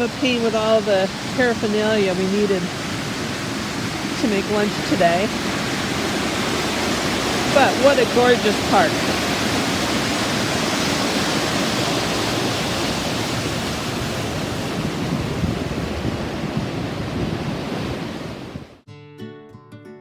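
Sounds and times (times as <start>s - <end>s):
water rushing over a dam: 0.0s - 17.0s.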